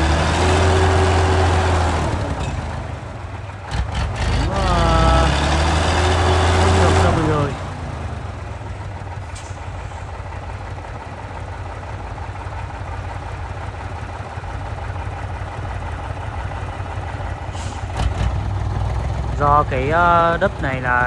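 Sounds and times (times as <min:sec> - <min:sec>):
diesel truck engine rumbling: 0:00.0 - 0:21.0.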